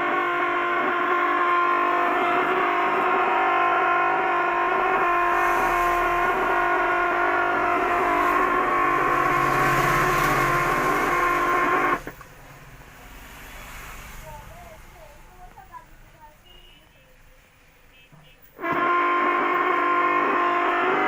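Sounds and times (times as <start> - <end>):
television speaker hum: 0.0 - 21.0.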